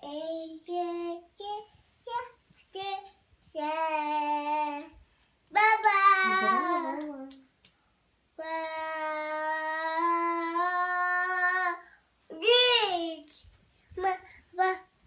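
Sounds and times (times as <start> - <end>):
toddler singing: 0.0 - 7.4, 8.4 - 15.0.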